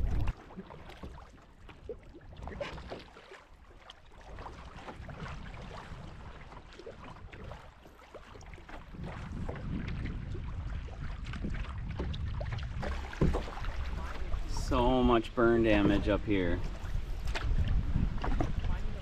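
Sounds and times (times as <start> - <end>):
water drips from paddle: 0.0 - 18.8
paddle strokes in water: 0.0 - 19.0.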